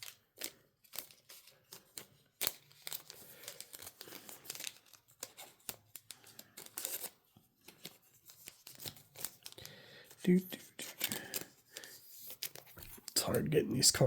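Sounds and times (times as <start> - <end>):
cards and plastic sleeves rustling: 0.0 - 14.0.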